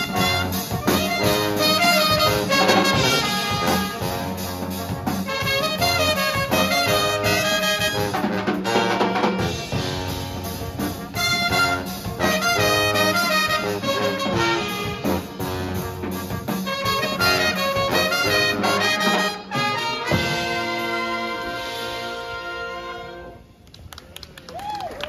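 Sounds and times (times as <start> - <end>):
brass band playing swing: 0.0 - 23.6.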